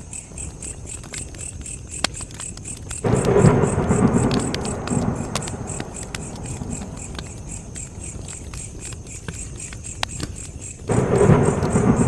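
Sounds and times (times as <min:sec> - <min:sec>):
campfire crackling: 0:00.0 - 0:12.0
cricket chirping: 0:00.0 - 0:12.0.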